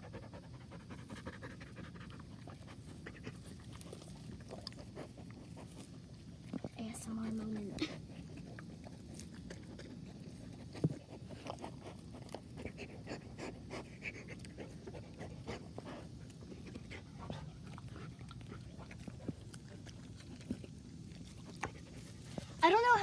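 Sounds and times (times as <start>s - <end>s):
dog chewing grass: 0.0s - 23.0s
dog panting: 0.0s - 23.0s
rustles: 0.8s - 23.0s.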